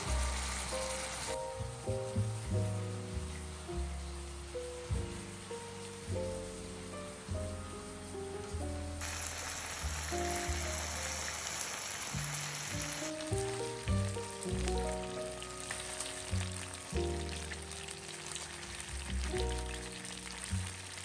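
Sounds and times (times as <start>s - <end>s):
meat sizzling on grill pan: 0.0s - 8.2s, 9.0s - 21.0s
soft background music: 0.0s - 11.5s, 12.2s - 21.0s.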